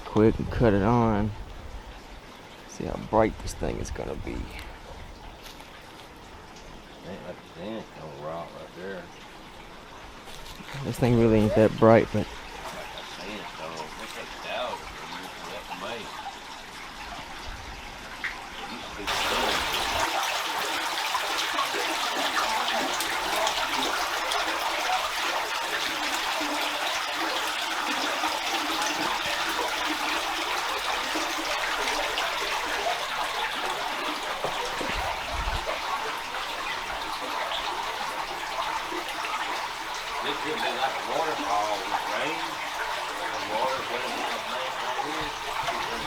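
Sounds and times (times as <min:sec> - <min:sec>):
water trickling down rocks: 0:02.3 - 0:46.0.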